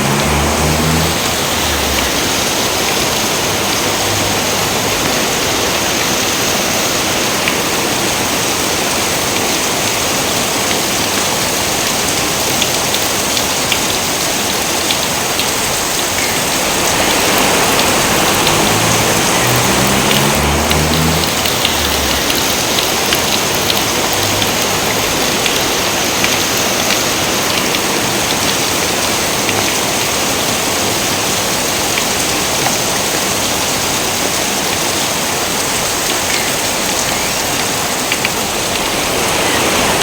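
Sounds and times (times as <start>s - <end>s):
heavy rain hissing: 0.0s - 40.0s
raindrop ticks: 0.0s - 40.0s.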